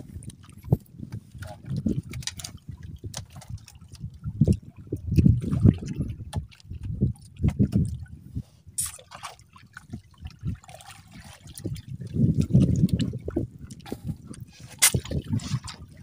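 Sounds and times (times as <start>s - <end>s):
sea water sloshing around boat: 0.0s - 16.0s.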